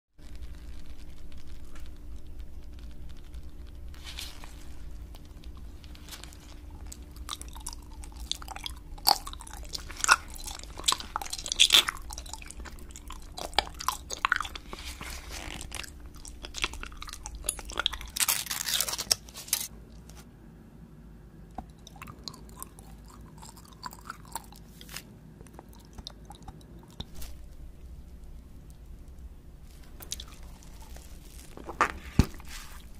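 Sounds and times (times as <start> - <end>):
chewing gummy candy: 0.2 - 20.1, 21.5 - 32.9.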